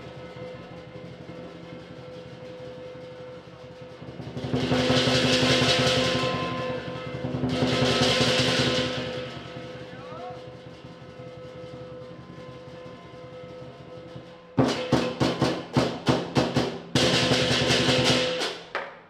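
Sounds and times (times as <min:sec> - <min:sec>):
big drum fast roll: 0:00.0 - 0:18.7
cymbals clashing: 0:00.0 - 0:18.7.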